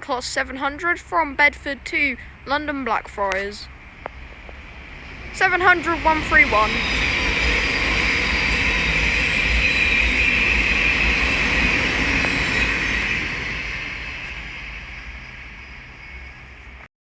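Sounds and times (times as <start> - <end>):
high whine of train: 0.0 - 16.9
train wheels rushing on rail: 0.0 - 16.9.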